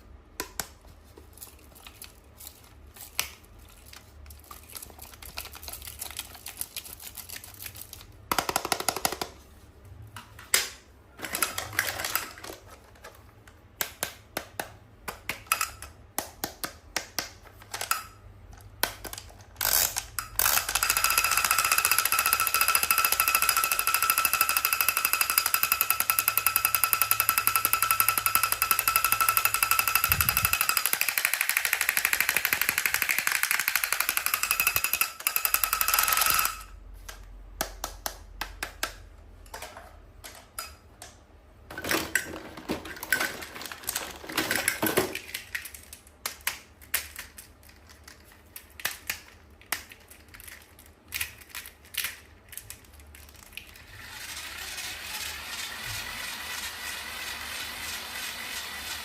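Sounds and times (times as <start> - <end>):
toys and packaging clicking: 0.4 - 9.4, 10.5 - 26.3, 27.1 - 59.0.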